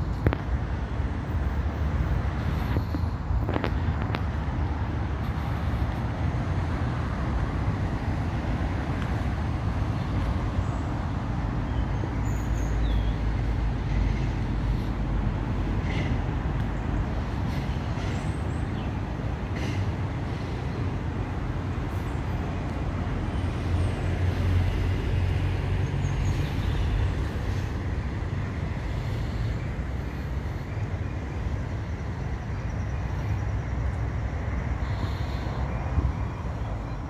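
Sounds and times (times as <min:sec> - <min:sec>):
low rumble of road traffic: 0:00.0 - 0:37.0.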